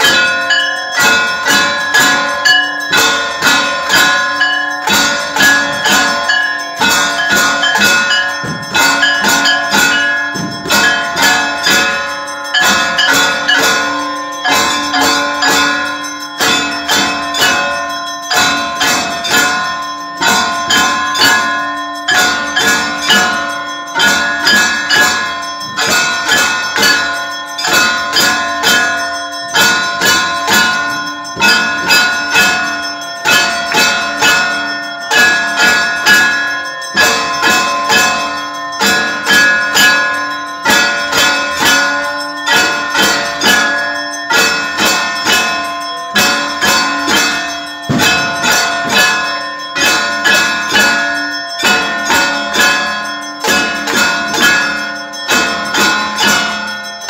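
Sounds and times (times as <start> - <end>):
temple bells rung rapidly: 0.0 - 57.0.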